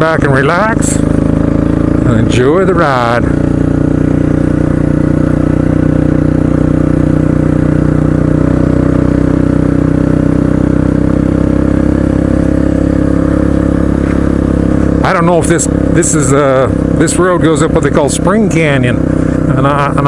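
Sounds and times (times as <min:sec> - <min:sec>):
motorcycle engine running steadily: 0:00.0 - 0:20.0.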